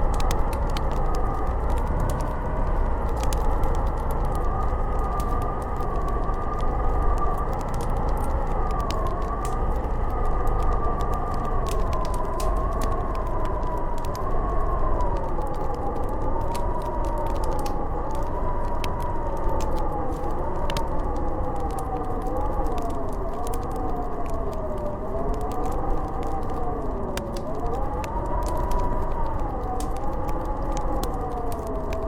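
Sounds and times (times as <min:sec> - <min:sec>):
howling wind: 0:00.0 - 0:32.0
wood fire crackling: 0:00.0 - 0:32.0.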